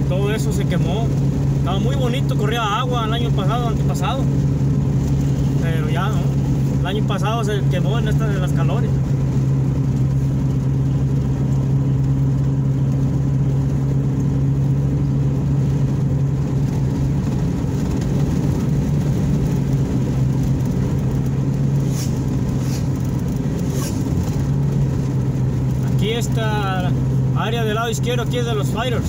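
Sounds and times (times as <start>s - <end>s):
car engine hum and road rumble: 0.0s - 29.0s.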